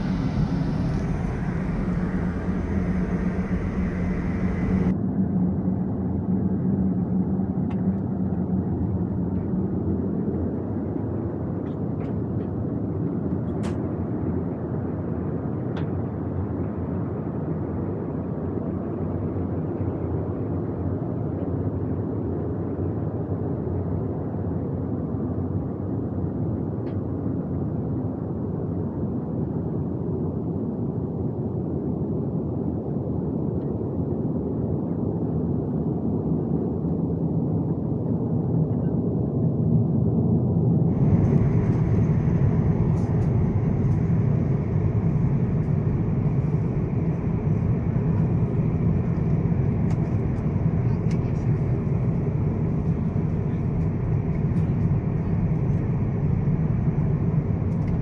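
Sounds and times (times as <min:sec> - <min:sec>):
airliner rumble: 0:00.0 - 0:26.0, 0:34.1 - 0:58.0.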